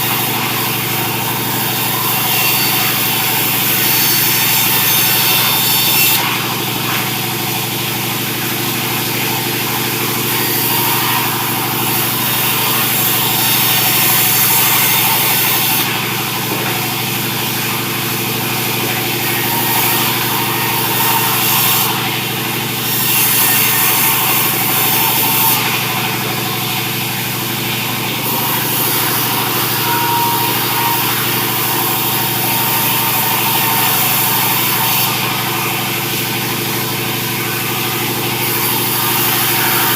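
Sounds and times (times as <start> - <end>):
saw cutting wood hiss: 0.0 - 26.8, 28.3 - 39.9
sawmill engine drone: 0.0 - 39.9.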